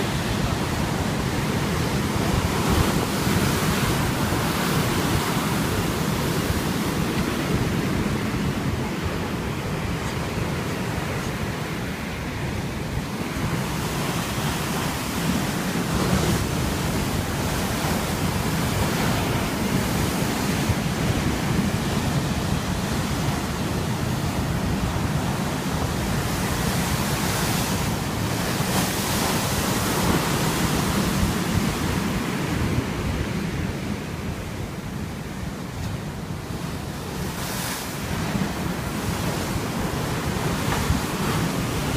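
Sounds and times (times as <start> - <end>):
sea waves breaking on shore: 0.0 - 41.9
wind on microphone: 0.0 - 41.9.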